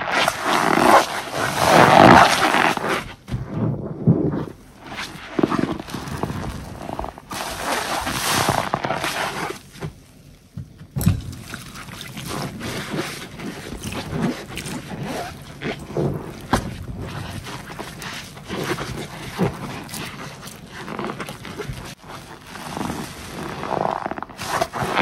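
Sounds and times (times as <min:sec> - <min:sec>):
sponge squelching in suds: 0:00.0 - 0:10.4, 0:11.0 - 0:25.0.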